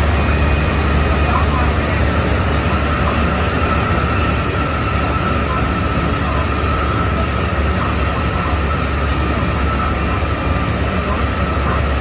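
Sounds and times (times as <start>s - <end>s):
high whine of traction motors: 0.0s - 12.0s
wheels rumbling on rail: 0.0s - 12.0s.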